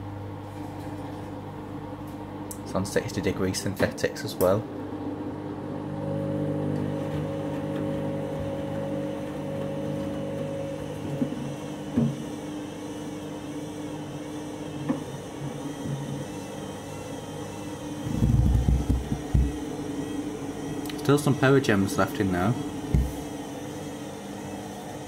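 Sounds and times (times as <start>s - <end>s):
washing machine motor hum: 0.0s - 25.0s.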